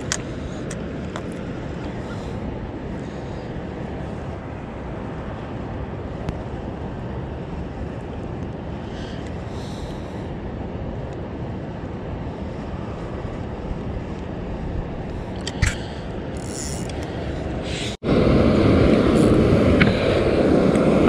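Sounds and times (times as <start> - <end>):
wind and moving water: 0.0 - 21.0.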